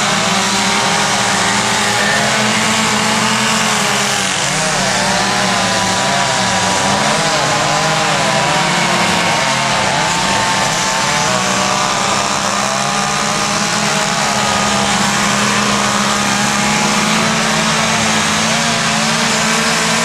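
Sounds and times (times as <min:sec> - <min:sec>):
chainsaws revving: 0:00.0 - 0:20.0.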